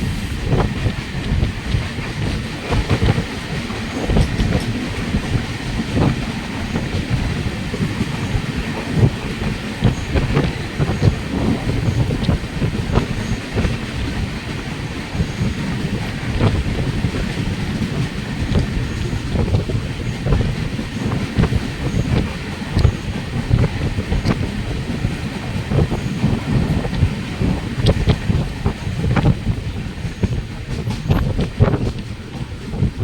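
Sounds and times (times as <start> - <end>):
train rumbling on rails: 0.0 - 33.0
wheels and carriages rattling: 0.0 - 33.0.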